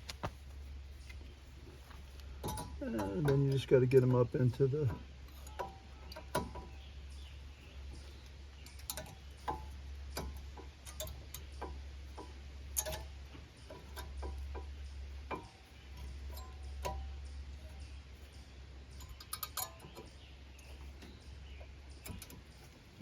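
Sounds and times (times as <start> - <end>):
light metallic clicks and taps: 0.0 - 23.0.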